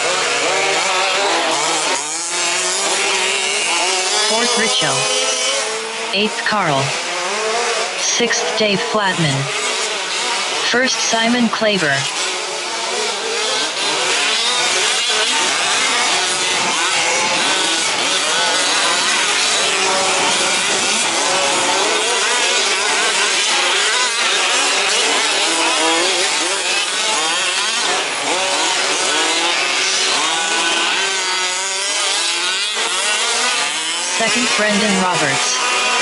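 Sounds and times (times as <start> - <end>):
rc truck engines revving: 0.0 - 36.0.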